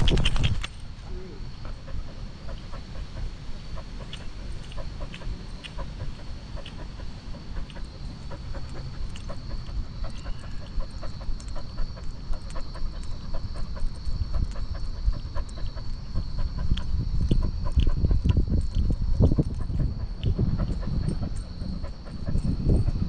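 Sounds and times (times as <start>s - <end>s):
steady low rumble: 0.0s - 23.0s
dog panting: 1.4s - 23.0s.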